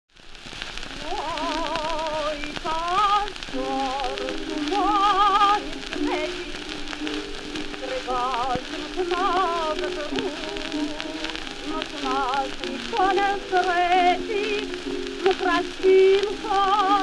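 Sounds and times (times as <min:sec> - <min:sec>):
record crackle and hiss: 0:00.1 - 0:17.0
person singing with vibrato: 0:00.9 - 0:17.0.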